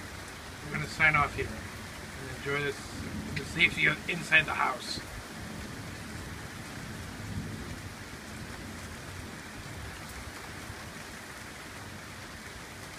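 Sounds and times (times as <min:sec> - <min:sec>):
steady rain falling: 0:00.0 - 0:12.9
low rumble of thunder: 0:00.5 - 0:11.1.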